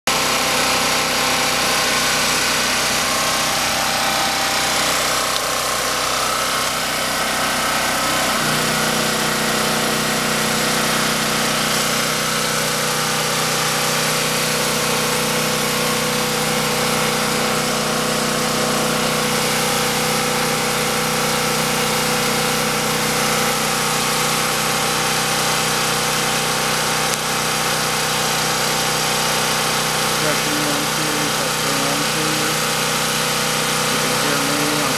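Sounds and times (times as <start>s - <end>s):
generator engine running: 0.1s - 34.9s.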